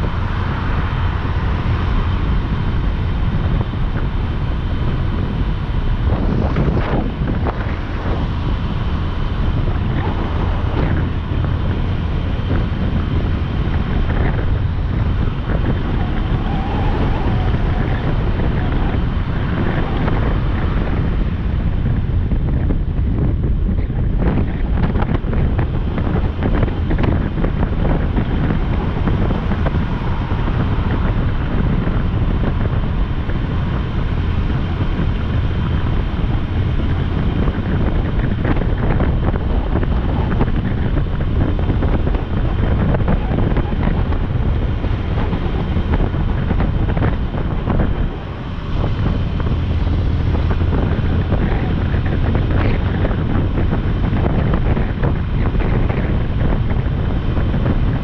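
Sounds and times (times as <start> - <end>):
motorcycle engine: 0.0 - 58.0
road noise: 0.0 - 58.0
wind buffeting microphone: 0.0 - 58.0.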